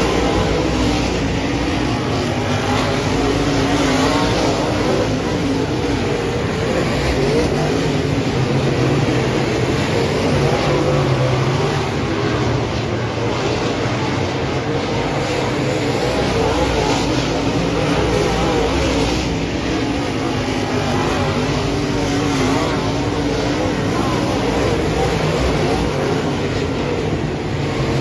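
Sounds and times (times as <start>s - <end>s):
race car engines: 0.0s - 28.0s.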